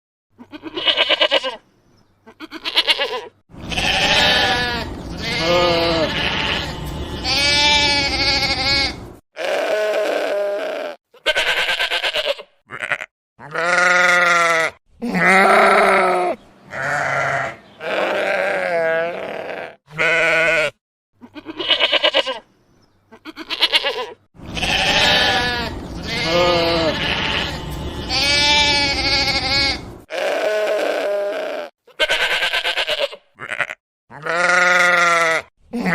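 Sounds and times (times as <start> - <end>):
sheep bleating: 0.4 - 1.6, 2.3 - 22.4, 23.1 - 35.9.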